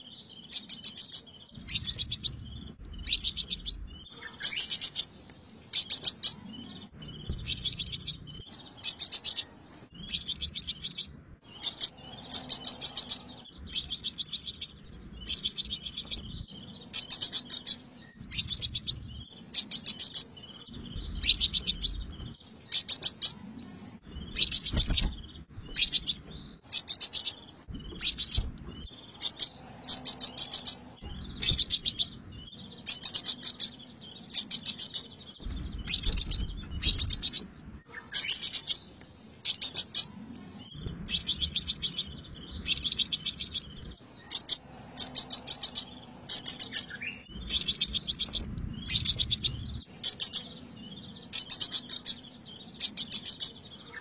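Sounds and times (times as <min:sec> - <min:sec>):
bird chattering trills: 0:00.0 - 0:38.9, 0:39.5 - 0:54.0.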